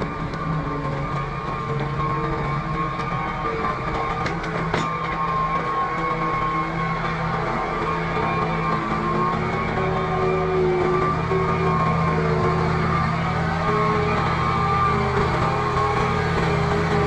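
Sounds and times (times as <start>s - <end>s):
engine running steadily: 0.0s - 17.0s
music: 0.0s - 17.0s.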